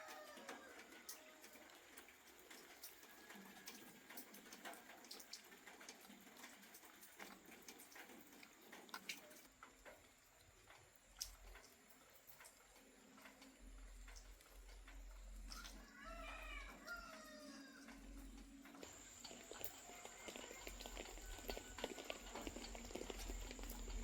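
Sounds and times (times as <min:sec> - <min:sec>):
faint light ticks and clicks: 0:00.1 - 0:24.0.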